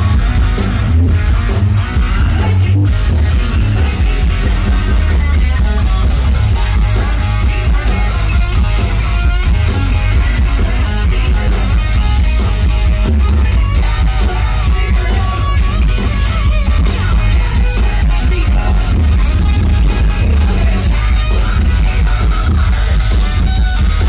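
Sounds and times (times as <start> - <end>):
bass guitar: 0.0 - 24.0
drum kit: 0.0 - 24.0
overdriven electric guitar: 0.0 - 24.0.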